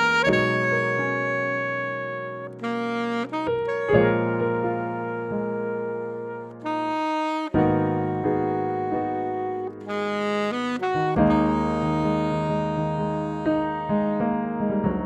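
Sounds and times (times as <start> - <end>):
alto saxophone ballad melody: 0.0 - 14.7
piano chords: 0.0 - 15.0.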